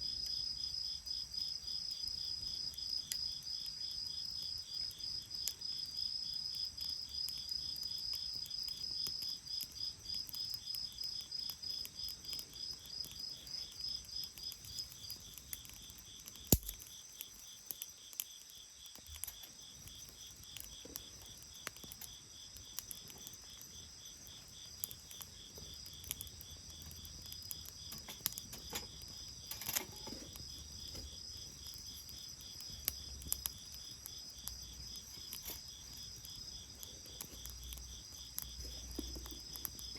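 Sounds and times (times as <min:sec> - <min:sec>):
bonfire pops and crackles: 0:00.0 - 0:39.9
crickets chirping: 0:00.0 - 0:39.9.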